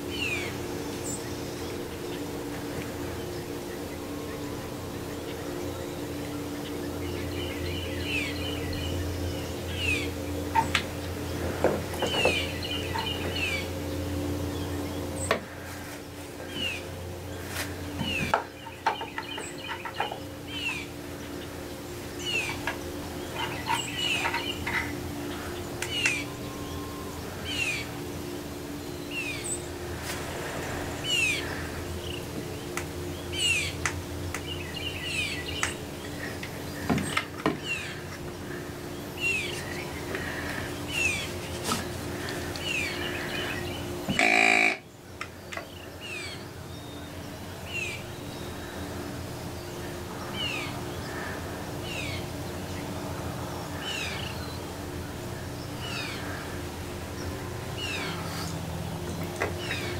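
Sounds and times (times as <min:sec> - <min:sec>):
small birds chirping: 0:00.0 - 0:59.9
steady low hum: 0:00.0 - 0:59.9.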